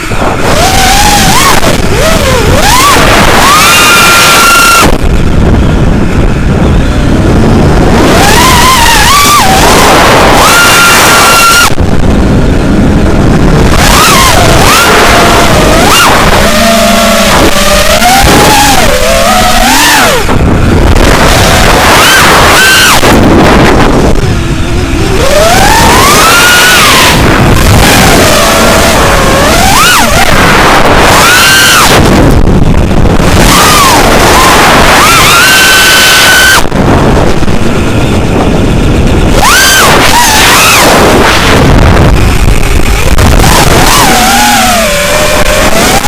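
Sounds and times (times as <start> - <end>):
model airplane motor whining: 0.0 - 46.0
wind rush on microphone: 0.0 - 46.0.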